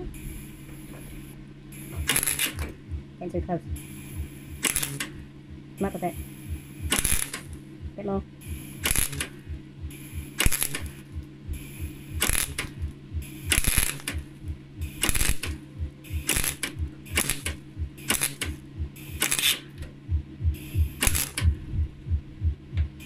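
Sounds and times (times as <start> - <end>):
welder arc crackling: 0.0 - 21.7
steady pulsing hum: 0.0 - 23.0.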